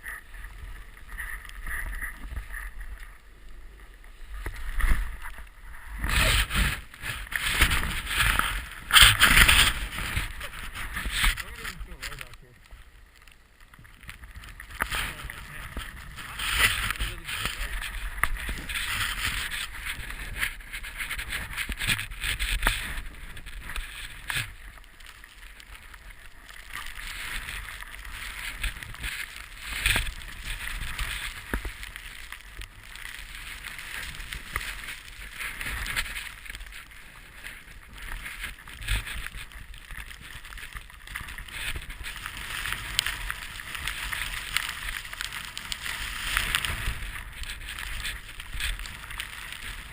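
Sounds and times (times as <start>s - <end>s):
snowboard carving through powder: 0.0s - 12.3s, 14.2s - 49.9s
wind rumble on microphone: 0.0s - 49.9s.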